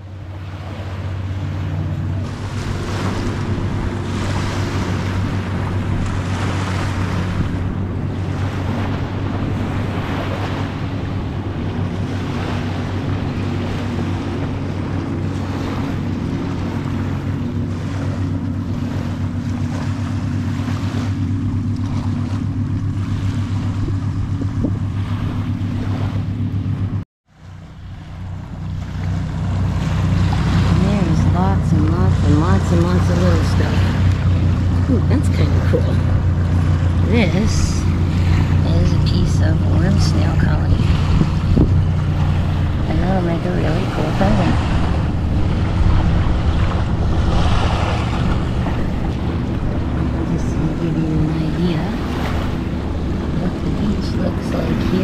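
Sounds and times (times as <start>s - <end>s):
wind buffeting microphone: 0.0s - 27.0s, 27.8s - 55.0s
steady low hum: 0.0s - 55.0s.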